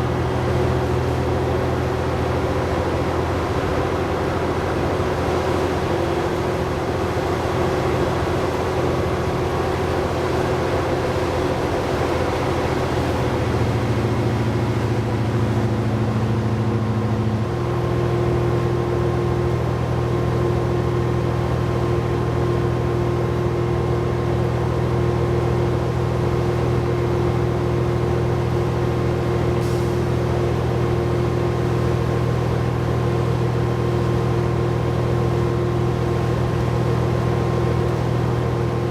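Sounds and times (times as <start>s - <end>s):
bus engine hum: 0.0s - 38.9s
road noise: 0.0s - 38.9s.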